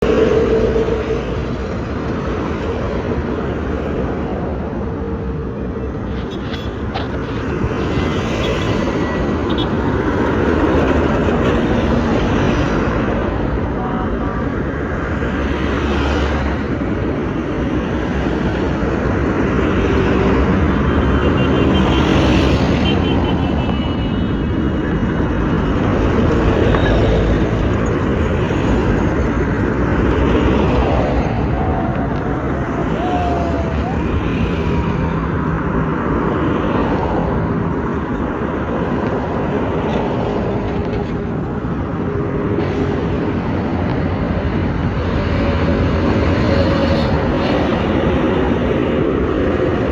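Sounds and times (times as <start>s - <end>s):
vehicle and road rumble: 0.0s - 49.9s.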